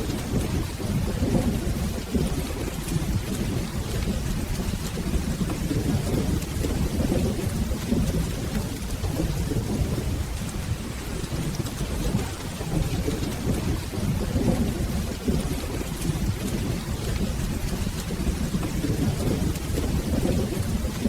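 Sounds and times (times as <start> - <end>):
rolling thunder: 0.0 - 21.0
steady rain: 0.0 - 21.0.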